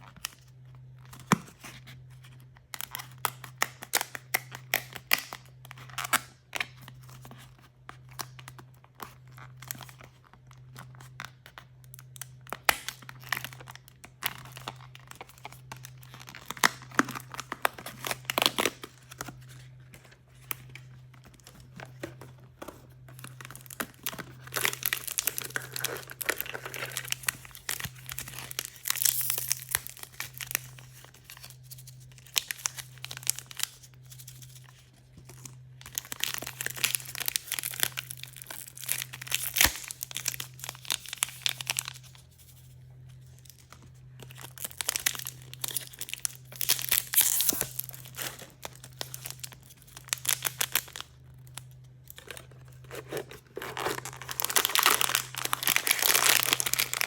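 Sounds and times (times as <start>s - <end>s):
plastic wrapping crinkling and tearing: 0.0s - 57.0s.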